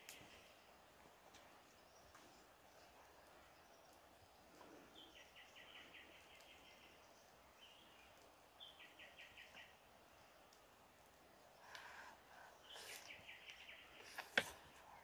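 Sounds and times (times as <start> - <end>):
birdsong: 0.0 - 15.0
quiet forest background: 0.0 - 15.0.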